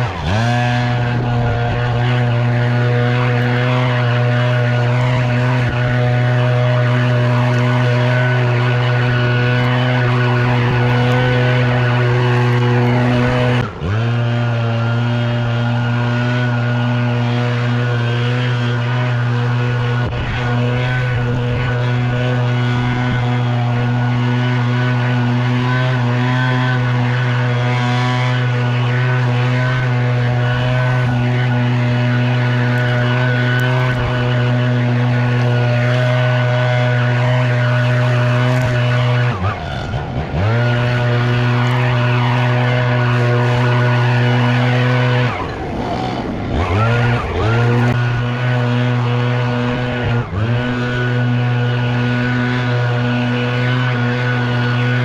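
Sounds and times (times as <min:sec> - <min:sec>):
leaf blower running: 0:00.0 - 0:55.0.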